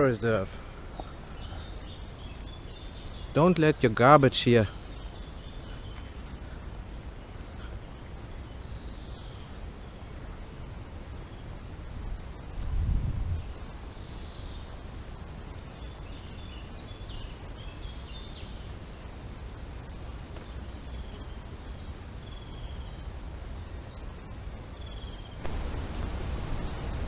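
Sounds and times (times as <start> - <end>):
forest wind: 0.0 - 27.0
small birds chirping: 0.0 - 27.0.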